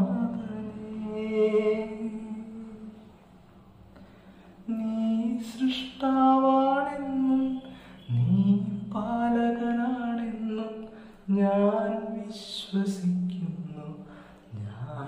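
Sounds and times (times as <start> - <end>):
man singing unaccompanied: 0.0 - 3.1, 4.6 - 15.0.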